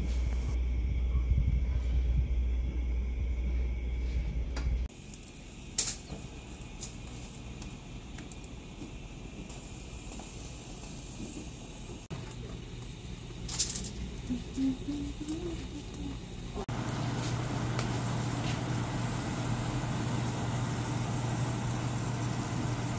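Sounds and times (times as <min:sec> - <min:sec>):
gas burner flame rumbling: 0:00.0 - 0:22.9.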